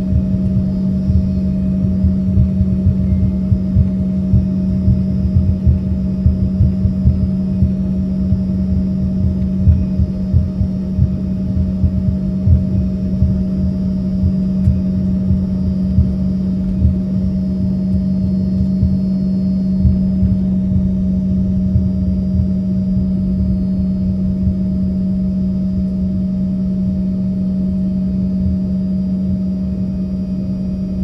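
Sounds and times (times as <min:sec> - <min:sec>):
jet engines humming: 0:00.0 - 0:31.0
uneven low rumble: 0:00.0 - 0:31.0.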